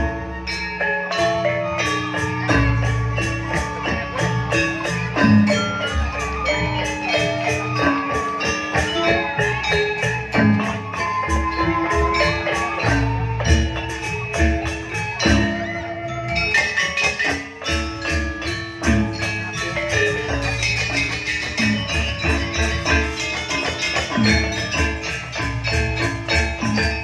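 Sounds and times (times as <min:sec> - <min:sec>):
metallophones ringing: 0:00.0 - 0:27.0.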